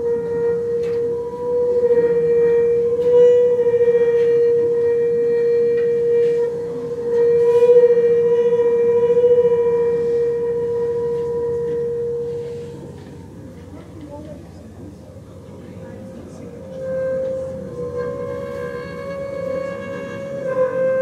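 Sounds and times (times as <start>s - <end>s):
bowed double bass note: 0.0s - 21.0s.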